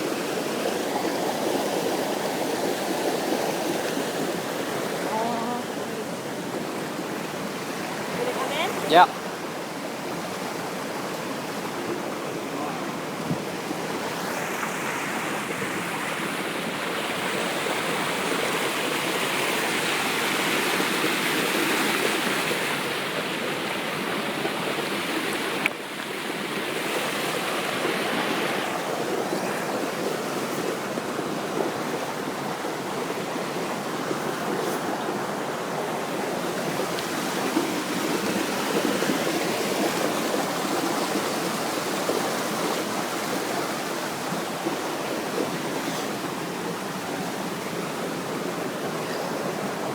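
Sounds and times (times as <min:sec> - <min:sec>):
waterfall spilling into pool: 0:00.0 - 0:49.9.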